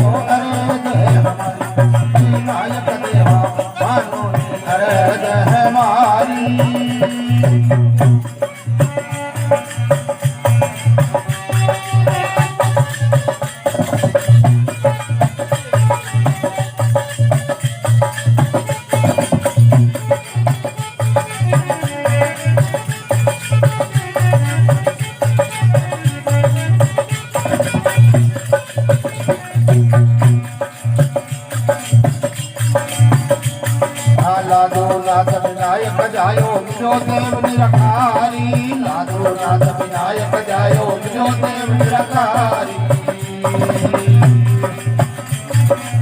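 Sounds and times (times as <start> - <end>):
hand drum beat: 0.0 - 46.0
shaken rattles or jingles: 0.0 - 46.0.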